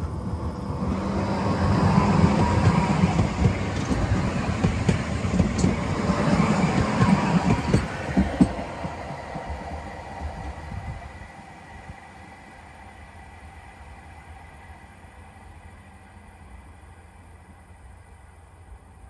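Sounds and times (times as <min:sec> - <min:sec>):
steel wheels rumbling on rails: 0:00.0 - 0:17.8
tram drive humming: 0:00.0 - 0:19.0.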